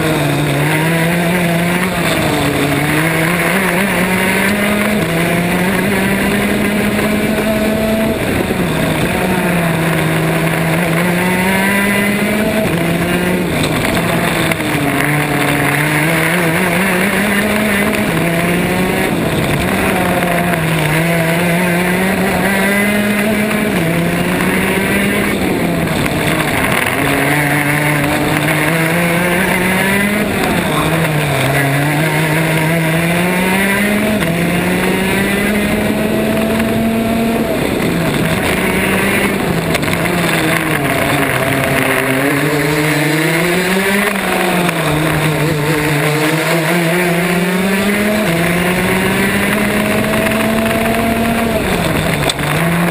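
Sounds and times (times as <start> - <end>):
kart engine accelerating: 0.0 - 52.9
steady rushing noise: 0.0 - 52.9.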